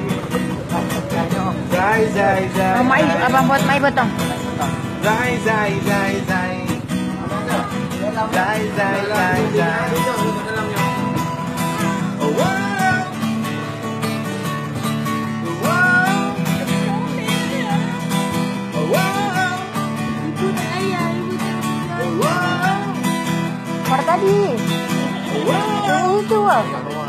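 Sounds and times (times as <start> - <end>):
string instrument strumming: 0.0 - 27.0.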